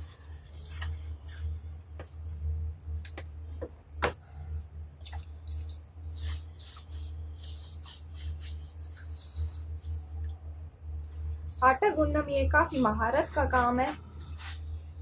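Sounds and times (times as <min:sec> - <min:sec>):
hands kneading dough: 0:00.0 - 0:15.0
steady low hum: 0:00.0 - 0:15.0.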